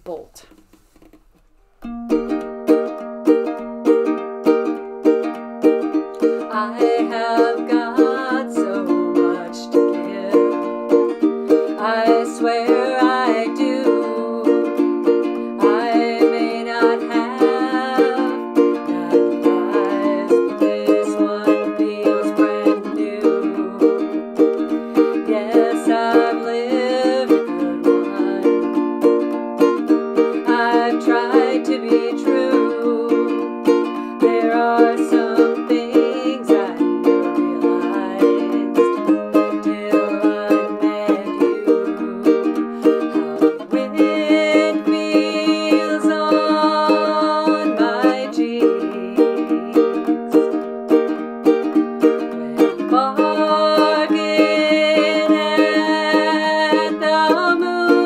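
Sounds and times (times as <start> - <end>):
ukulele strumming: 0.0 - 58.0.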